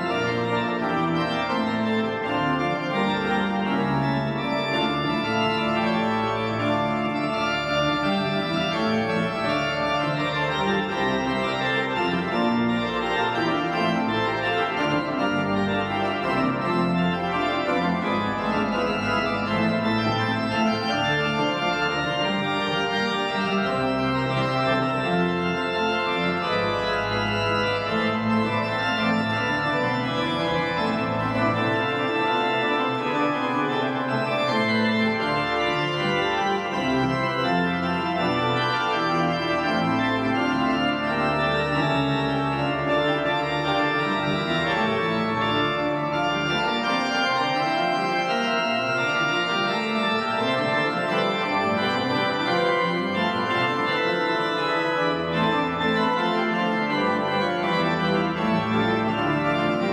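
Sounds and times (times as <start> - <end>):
pipe organ chords: 0.0 - 59.9.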